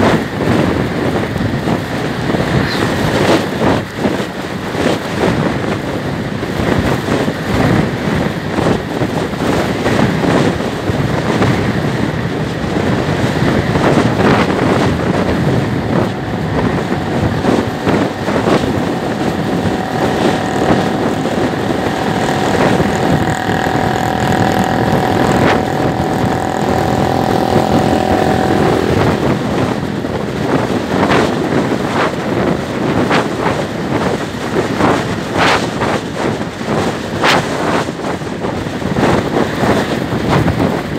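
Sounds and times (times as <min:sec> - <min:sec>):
scooter engine running: 0:00.0 - 0:40.9
wind buffeting microphone: 0:00.0 - 0:40.9.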